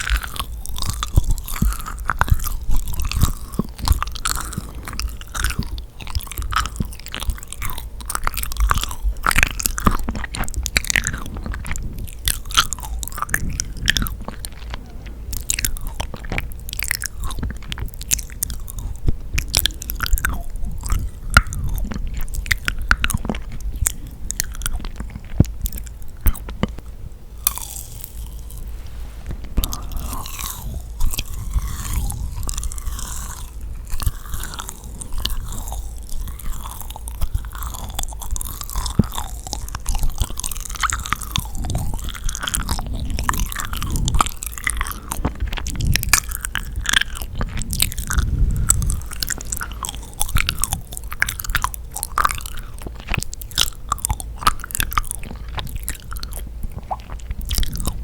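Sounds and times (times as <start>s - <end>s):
chewing sticky pastry: 0.0s - 58.0s
wet sticky mouth clicks: 0.0s - 58.0s.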